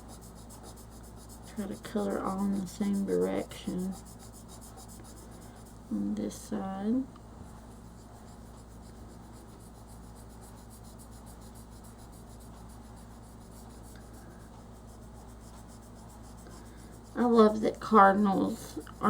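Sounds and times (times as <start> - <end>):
crayon rubbing on paper: 0.0 - 6.0, 7.5 - 19.0.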